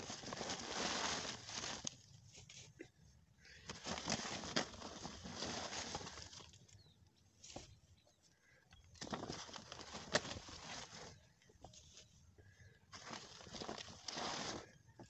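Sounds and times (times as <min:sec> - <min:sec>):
coconut fibre rustling: 0:00.0 - 0:07.8, 0:08.9 - 0:15.0.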